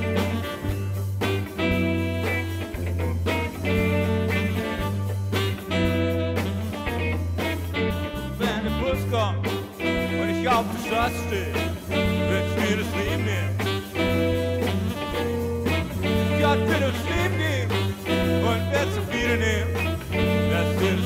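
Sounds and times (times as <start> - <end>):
background music with bass line: 0.0 - 21.0.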